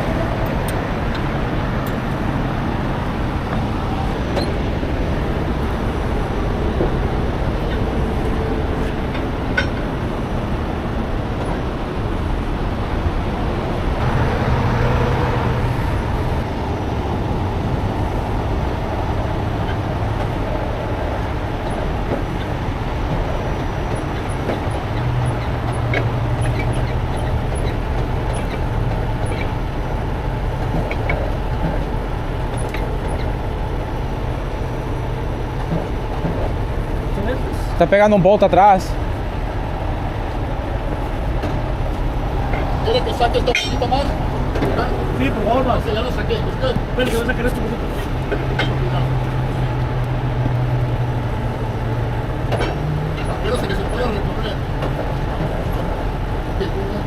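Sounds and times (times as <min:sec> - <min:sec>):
freeway traffic noise: 0:00.0 - 0:57.0
heavy diesel engine running: 0:00.0 - 0:57.0.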